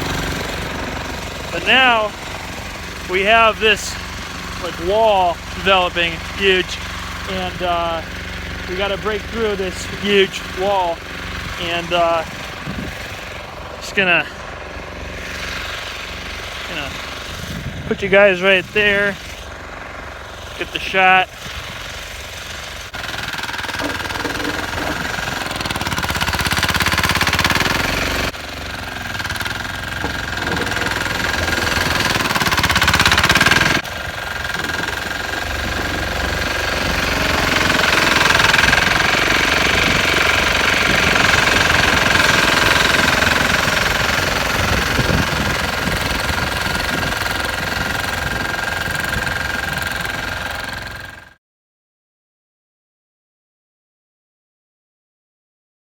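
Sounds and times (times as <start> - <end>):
tractor engine under load: 0.0 - 51.4.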